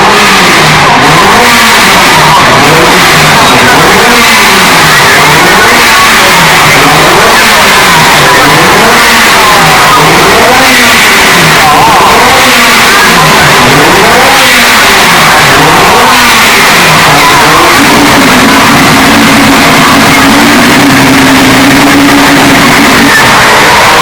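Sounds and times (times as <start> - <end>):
rotary engine revving: 0.0 - 24.0.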